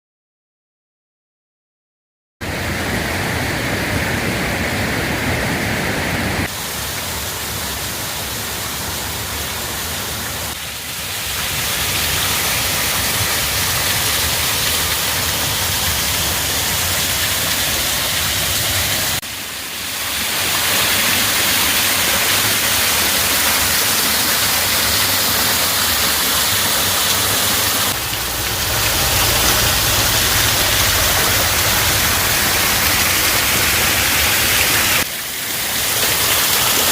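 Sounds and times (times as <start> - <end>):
waterfall rushing: 2.4 - 36.9.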